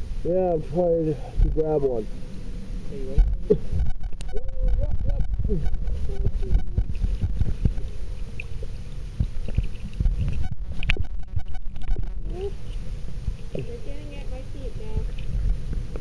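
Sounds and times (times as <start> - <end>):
underwater rumble of moving water: 0.0 - 16.0.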